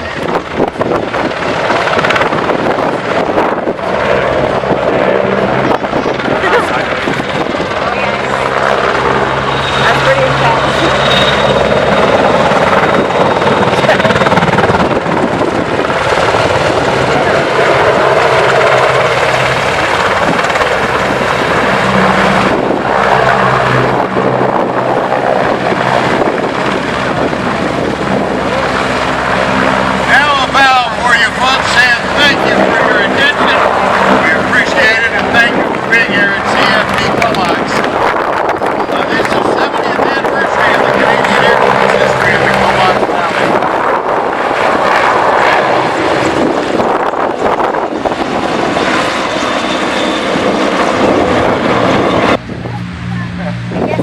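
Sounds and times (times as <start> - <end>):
aircraft flying low overhead: 0.0 - 54.0
helicopter rotor and turbine noise: 0.0 - 54.0
wind buffeting microphone: 0.0 - 54.0.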